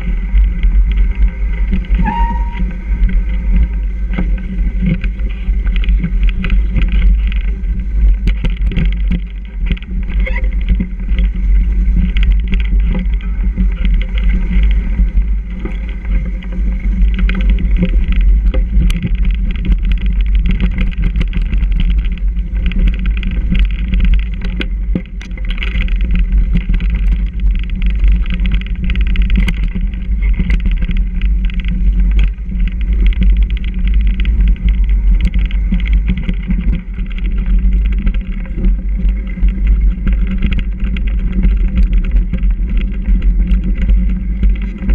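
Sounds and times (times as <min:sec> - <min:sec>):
bike knocking and rattling: 0:00.0 - 0:44.9
bike tyres rolling on snow: 0:00.0 - 0:44.9
wind rumble on microphone: 0:00.0 - 0:44.9.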